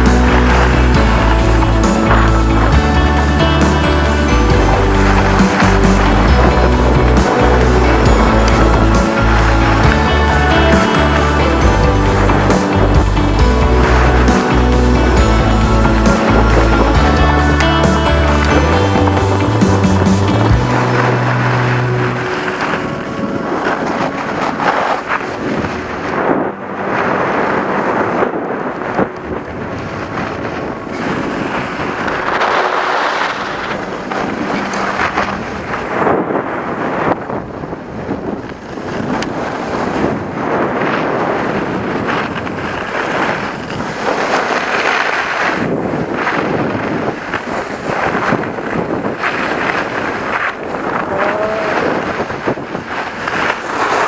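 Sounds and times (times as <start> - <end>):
skis sliding over snow: 0.0 - 54.0
wind buffeting microphone: 0.0 - 54.0.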